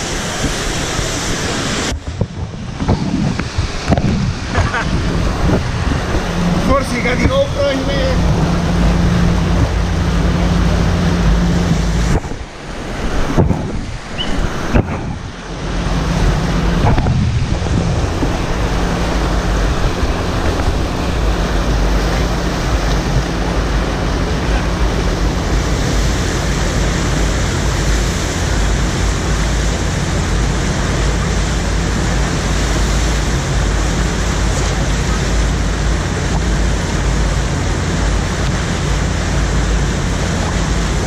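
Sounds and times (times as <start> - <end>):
rushing churning water: 0.0 - 41.0
wind buffeting microphone: 0.0 - 41.0.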